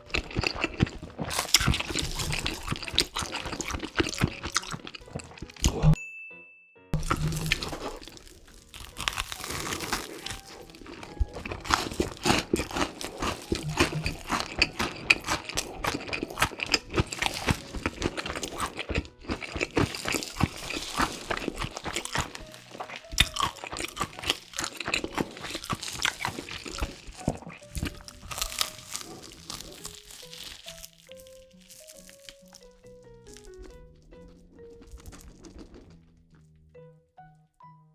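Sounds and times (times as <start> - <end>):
crunching and chewing fried food: 0.0 - 6.0, 7.0 - 36.6
quiet music: 0.0 - 37.9.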